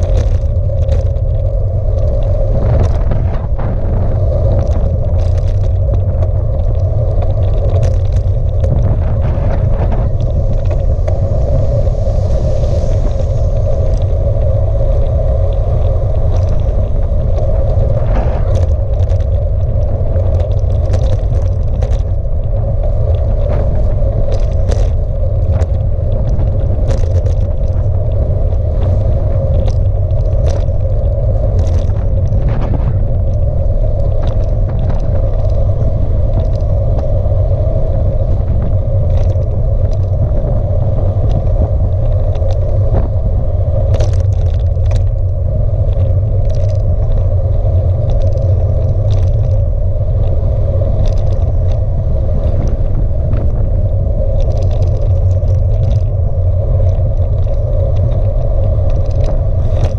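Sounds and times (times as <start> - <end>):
bicycle knocks and rattles: 0.0 - 59.9
bicycle tyre rumble on tarmac: 0.0 - 59.9
wind buffeting microphone: 0.0 - 59.9.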